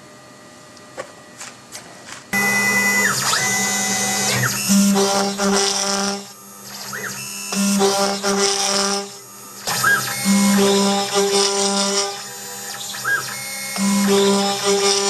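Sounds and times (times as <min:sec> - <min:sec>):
end mill cutting acrylic: 0:02.4 - 0:15.0
stepper motors whining: 0:02.4 - 0:15.0.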